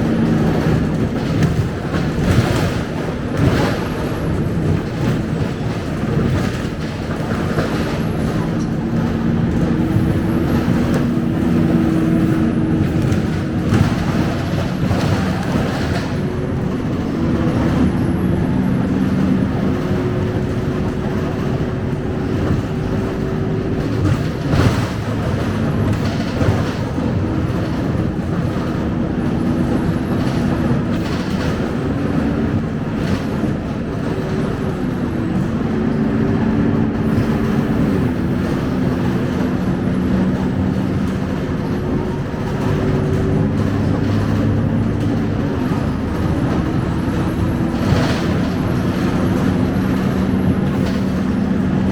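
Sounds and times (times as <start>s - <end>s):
body rattles and knocks: 0.0s - 51.9s
bus diesel engine: 0.0s - 51.9s
road noise: 0.0s - 51.9s.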